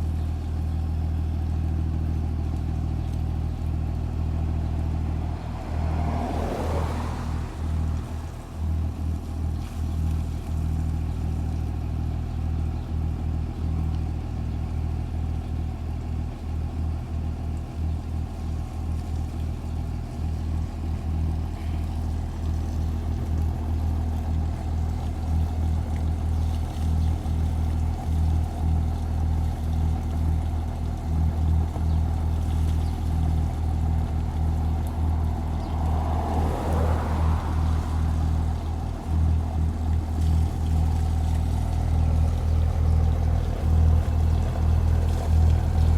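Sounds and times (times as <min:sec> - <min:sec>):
diesel engine idling: 0:00.0 - 0:45.9
water washing through muffler: 0:00.0 - 0:45.9.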